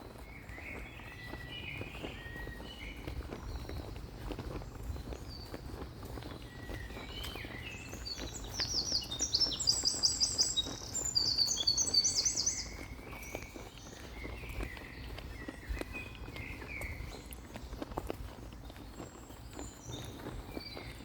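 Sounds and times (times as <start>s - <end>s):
songbirds chirping and trilling: 0.0s - 21.0s.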